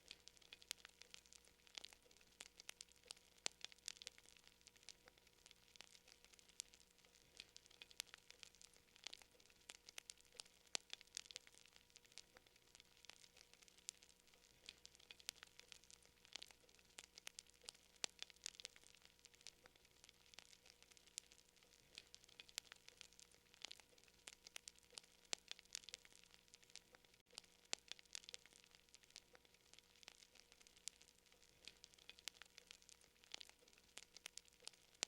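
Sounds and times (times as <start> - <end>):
faint fire crackling: 0.0 - 35.0.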